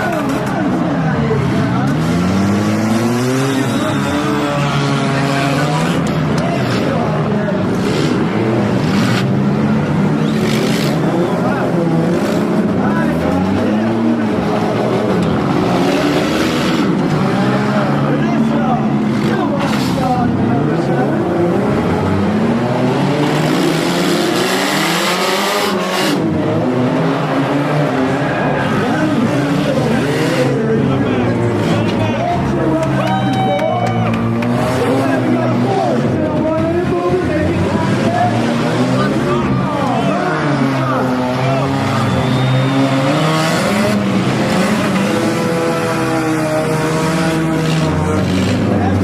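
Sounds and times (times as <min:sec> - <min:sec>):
car engines revving: 0:00.0 - 0:49.0
crowd noise: 0:00.0 - 0:49.0.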